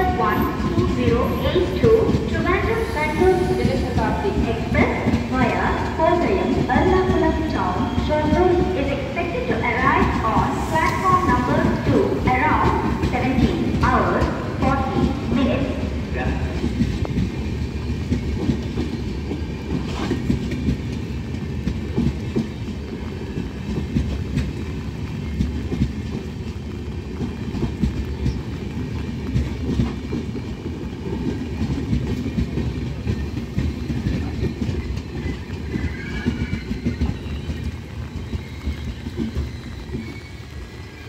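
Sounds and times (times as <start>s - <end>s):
train wheels clattering: 0.0s - 41.0s.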